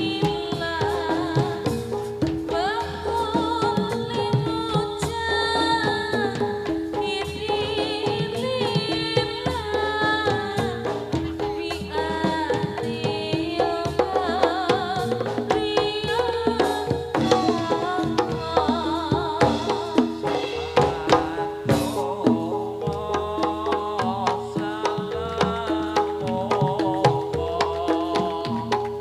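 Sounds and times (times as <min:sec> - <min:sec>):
hand drum strokes: 0:00.0 - 0:29.0.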